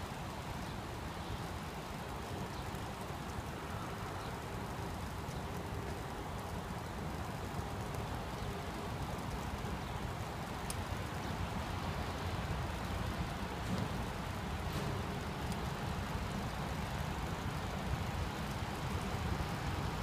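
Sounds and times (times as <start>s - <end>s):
outdoor noise: 0.0s - 20.0s
distant train rumble: 3.0s - 20.0s.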